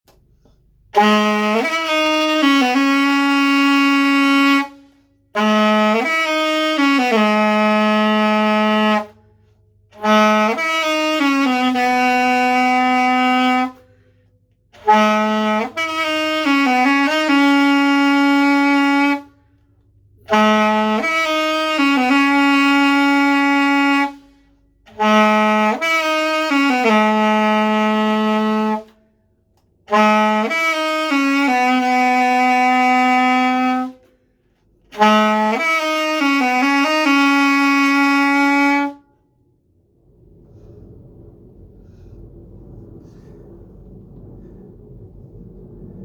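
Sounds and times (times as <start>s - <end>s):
alto saxophone solo: 0.1s - 39.4s.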